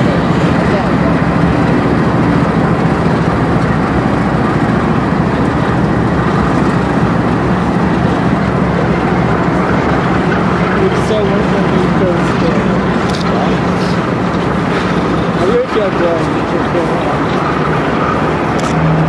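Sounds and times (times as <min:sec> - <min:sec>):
diesel locomotives passing: 0:00.0 - 0:19.0.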